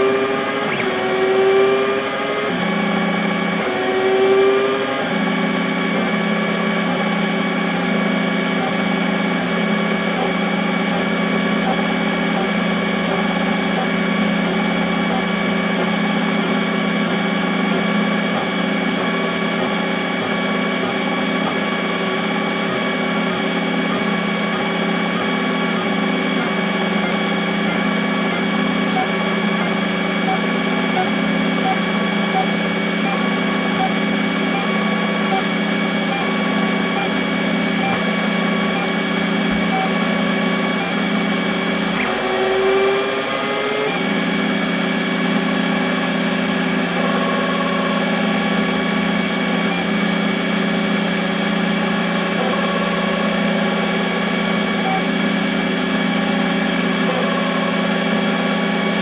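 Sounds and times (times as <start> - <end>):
short rising whine: 0.0 - 59.0
stepper motors humming: 0.0 - 59.0.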